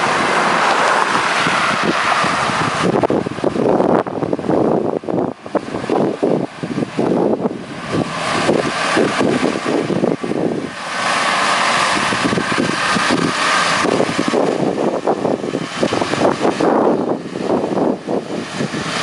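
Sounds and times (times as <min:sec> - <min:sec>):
tractor running: 0:00.0 - 0:19.0
wind buffeting microphone: 0:00.0 - 0:19.0.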